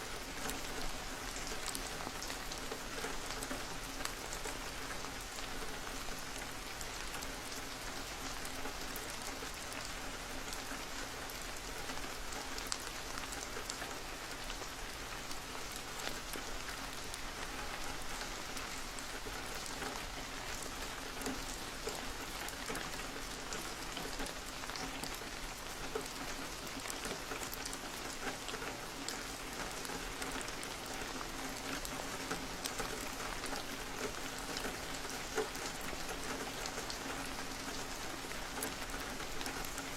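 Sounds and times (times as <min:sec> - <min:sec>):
steady rain with ticking drops: 0:00.0 - 0:39.9.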